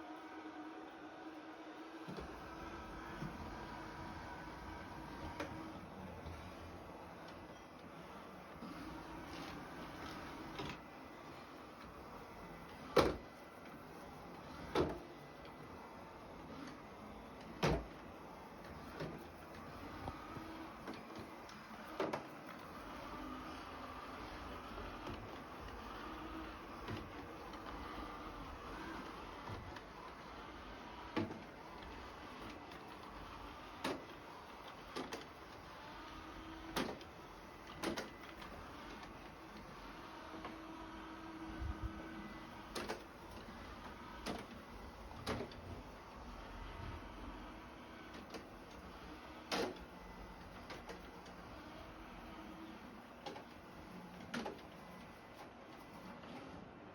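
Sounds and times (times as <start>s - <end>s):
robot vacuum cleaner humming: 0.0s - 54.0s.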